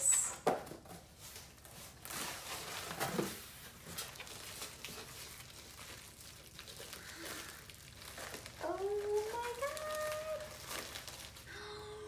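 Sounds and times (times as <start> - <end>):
packing material rustling: 1.0 - 11.6.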